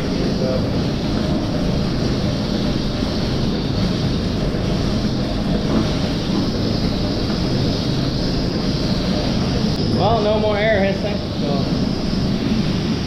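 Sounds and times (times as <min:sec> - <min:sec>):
milking machinery drone: 0:00.0 - 0:13.0.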